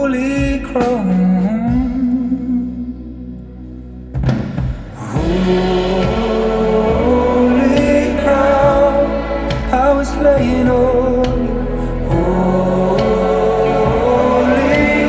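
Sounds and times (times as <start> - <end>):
recorded song: 0.0 - 15.0.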